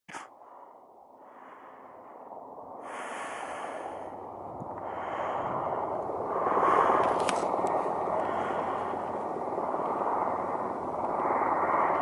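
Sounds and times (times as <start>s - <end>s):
helicopter rotor and turbine: 0.3s - 12.0s.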